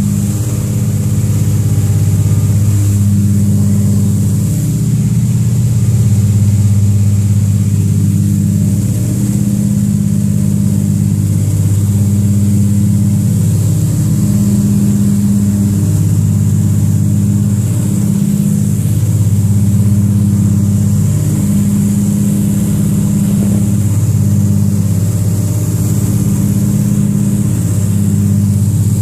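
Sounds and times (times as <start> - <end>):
aircraft engine droning: 0.0 - 29.0.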